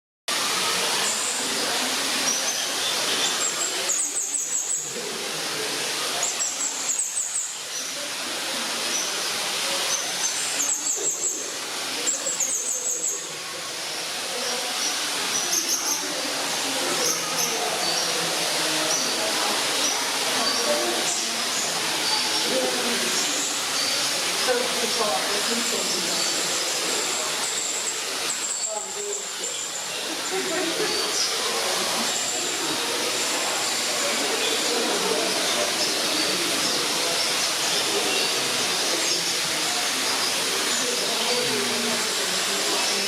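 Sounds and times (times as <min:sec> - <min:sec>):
small birds chirping: 0:00.6 - 0:05.1, 0:05.9 - 0:43.0.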